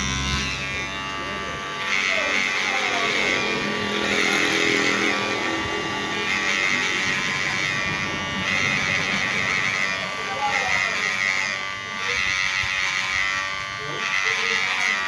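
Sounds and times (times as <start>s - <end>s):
hair clipper buzzing: 0.0s - 15.0s.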